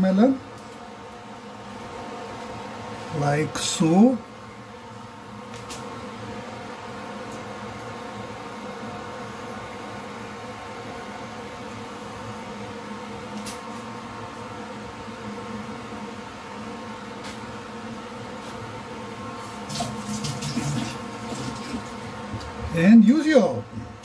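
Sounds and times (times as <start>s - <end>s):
induction cooktop hum: 0.0s - 24.0s.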